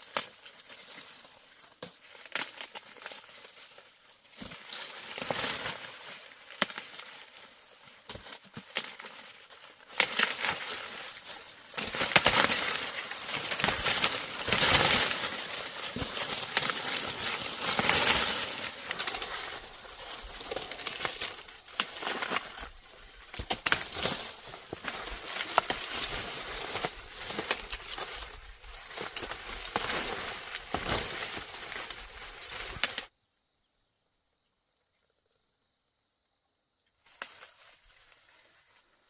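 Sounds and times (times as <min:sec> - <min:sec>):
dry plant material rustling: 0:00.0 - 0:33.1.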